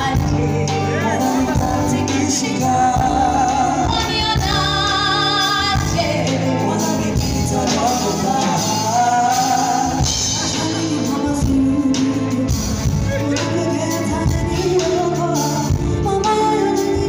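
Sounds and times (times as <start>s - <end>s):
live band playing: 0.0s - 17.0s
person singing: 0.0s - 17.0s.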